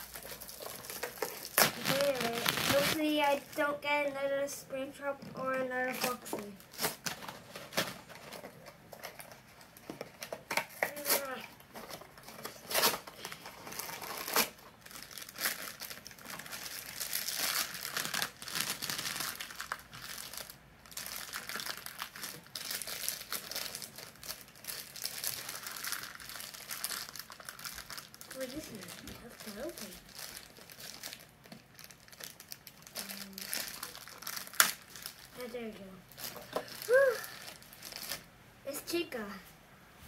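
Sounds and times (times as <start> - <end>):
foil bag crinkling: 0.0 - 3.8, 5.4 - 38.3.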